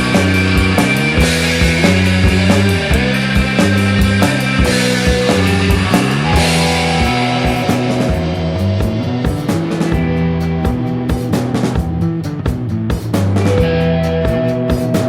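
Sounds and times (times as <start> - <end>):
bass guitar: 0.0 - 15.0
drums playing steady beat: 0.0 - 15.0
electric guitar with sliding notes: 0.0 - 15.0.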